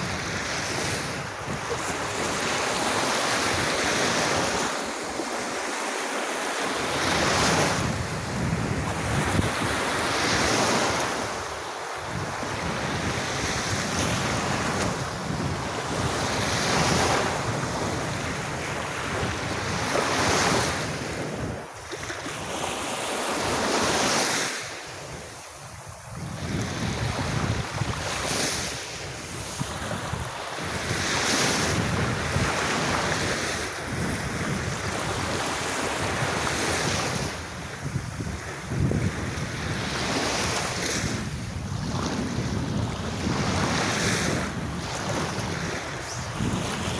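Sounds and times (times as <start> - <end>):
wind buffeting microphone: 0.0 - 5.7, 6.6 - 22.7, 23.4 - 46.9
sea waves breaking on beach: 0.0 - 46.9.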